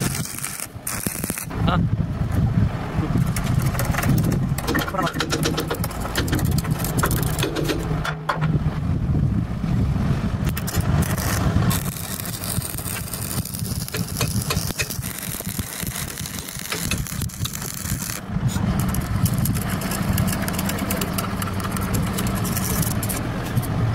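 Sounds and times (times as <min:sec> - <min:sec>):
welding arc crackling: 0:00.0 - 0:01.8, 0:03.2 - 0:07.8, 0:10.4 - 0:23.7.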